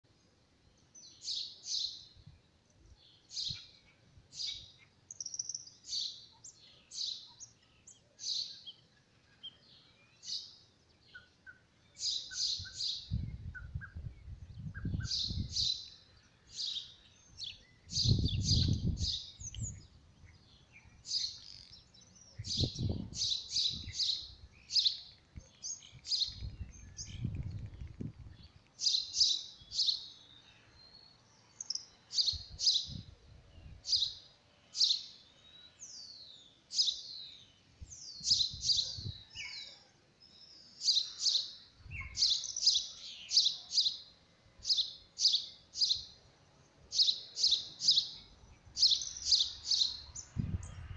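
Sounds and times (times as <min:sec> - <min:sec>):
birds chirping: 0:00.1 - 0:50.9.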